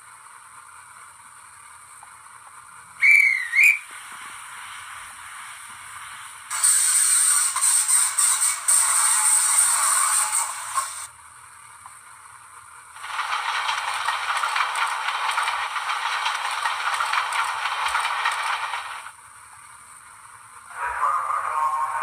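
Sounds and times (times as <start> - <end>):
rattling hissing railway noise: 0.0 - 22.0.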